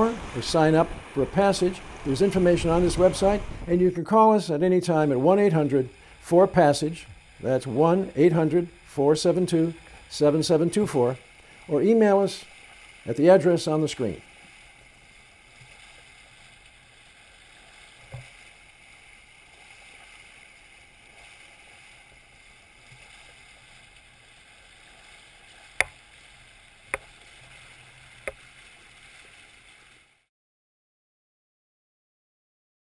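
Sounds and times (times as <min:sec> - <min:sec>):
water rushing along hull: 0:00.0 - 0:30.3
wind: 0:00.0 - 0:30.3.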